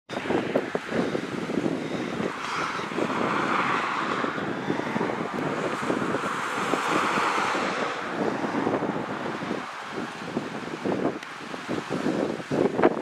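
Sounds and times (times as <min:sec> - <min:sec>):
distant propeller plane drone: 0:00.1 - 0:12.6
wind buffeting microphone: 0:00.1 - 0:13.0.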